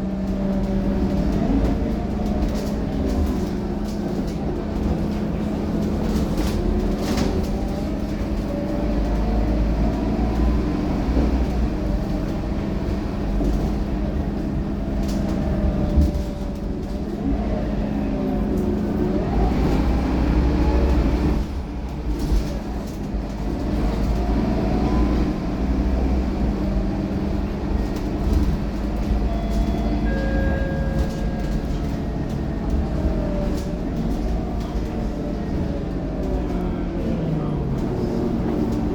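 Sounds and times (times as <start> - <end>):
bus engine drone with whine: 0.0 - 38.9.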